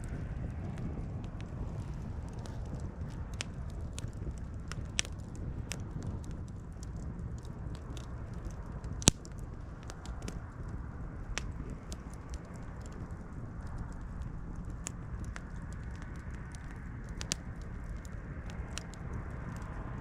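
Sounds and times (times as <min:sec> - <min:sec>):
campfire crackling and popping: 0:00.0 - 0:20.0
fire rumbling: 0:00.0 - 0:20.0.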